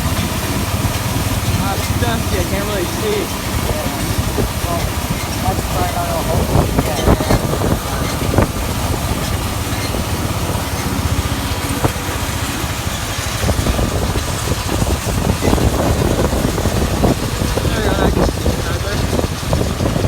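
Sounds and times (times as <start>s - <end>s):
farm machinery engine rumbling: 0.0s - 20.0s
noisy hiss: 0.0s - 20.0s.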